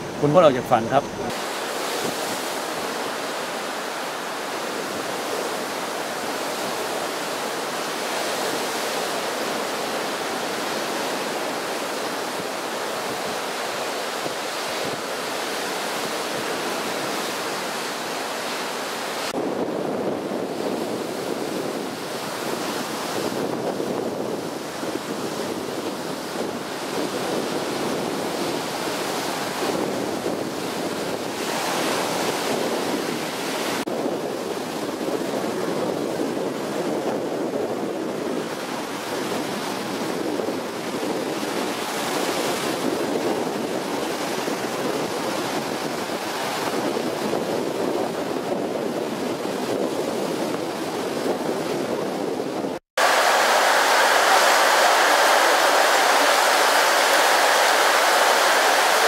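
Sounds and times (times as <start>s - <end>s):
strong wind: 0.0s - 59.0s
waves breaking: 0.0s - 59.0s.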